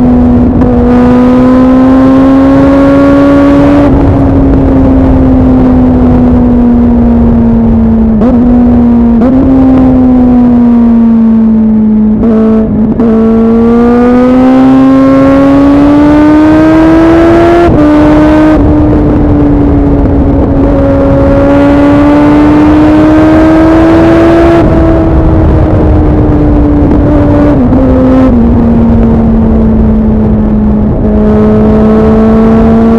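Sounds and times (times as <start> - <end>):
motorcycle engine revving: 0.0 - 32.9
wind rumble: 0.0 - 32.9.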